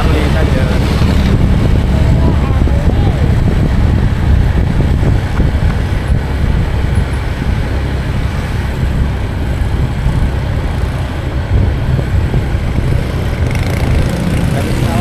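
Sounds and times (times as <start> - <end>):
road vehicle rumbling: 0.0 - 15.0
wind buffeting microphone: 0.0 - 15.0.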